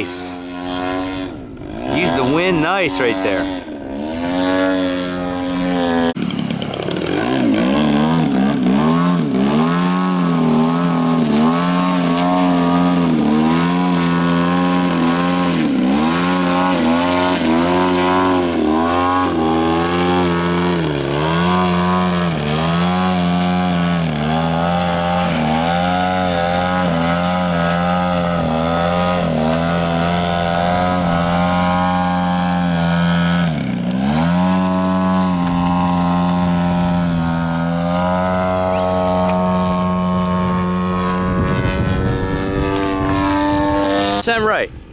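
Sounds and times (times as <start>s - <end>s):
model airplane engine and propeller: 0.0s - 44.9s.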